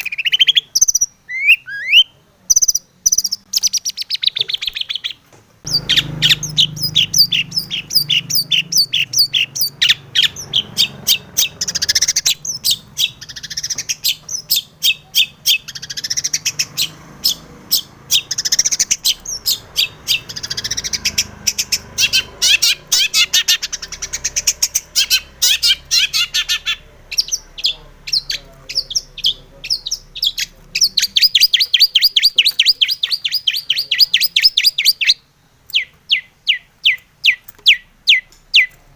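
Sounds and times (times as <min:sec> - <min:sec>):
bird singing chattering trills: 0:00.0 - 0:38.8.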